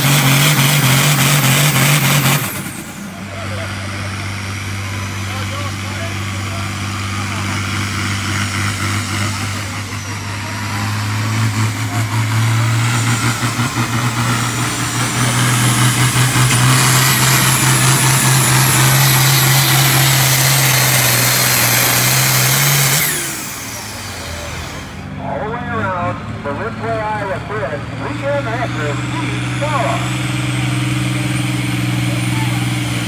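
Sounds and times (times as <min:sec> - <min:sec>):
tractor diesel engine droning: 0:00.0 - 0:33.0.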